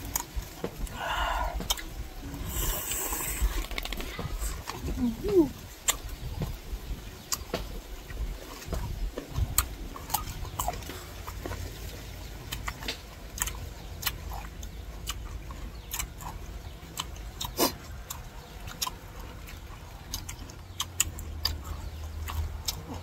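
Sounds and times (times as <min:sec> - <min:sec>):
crunching and chewing mango: 0:00.0 - 0:23.0.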